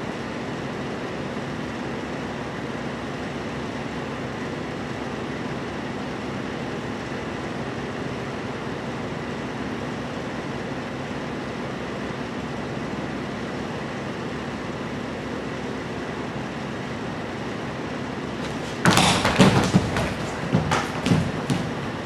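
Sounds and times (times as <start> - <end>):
room noise rumble and hiss: 0.0 - 22.0.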